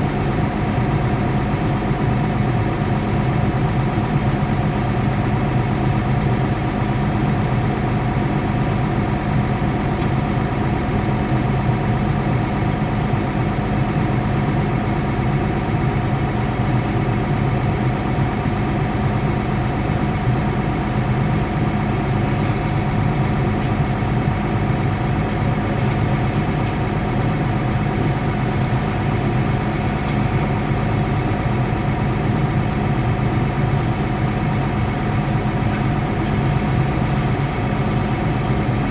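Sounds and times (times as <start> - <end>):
bulldozer diesel engine idling: 0.0 - 38.9.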